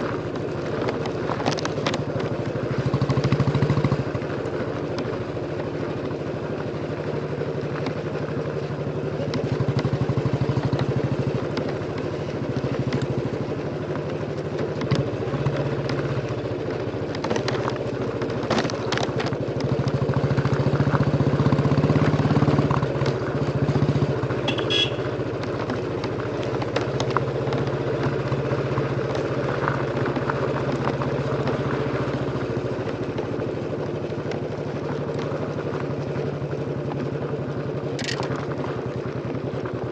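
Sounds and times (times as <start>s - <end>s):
motorcycle engine thumping: 0.0s - 6.2s, 7.3s - 39.9s.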